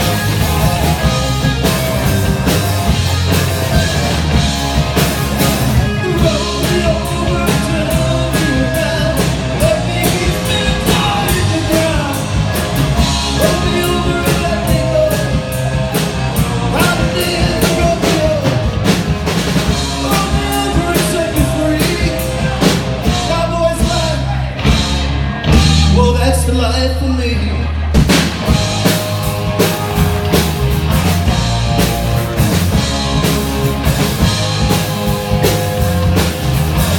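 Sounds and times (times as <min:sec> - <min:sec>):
drum-kit beat: 0:00.0 - 0:26.2, 0:27.8 - 0:36.9
rock band music: 0:00.0 - 0:36.9.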